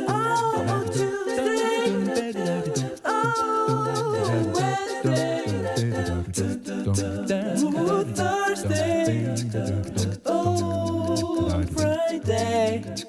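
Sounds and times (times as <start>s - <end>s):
song with sung vocals and beat: 0.0s - 13.0s.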